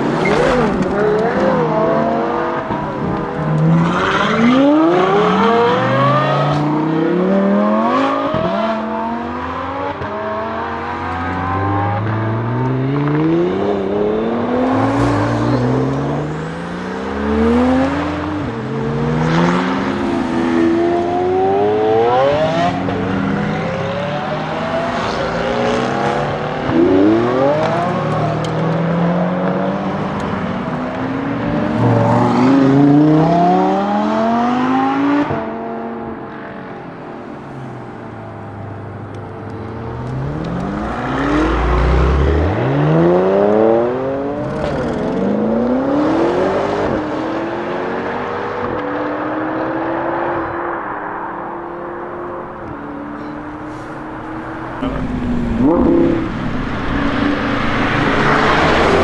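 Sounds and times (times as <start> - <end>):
race car engine accelerating: 0.0 - 36.8, 38.5 - 59.0.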